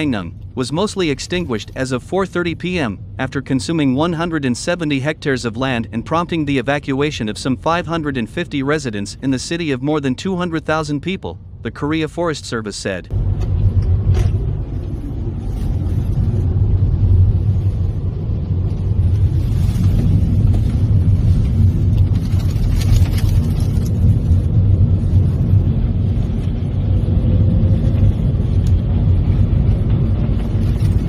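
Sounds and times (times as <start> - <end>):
car cabin road and wind noise: 0.0 - 31.0.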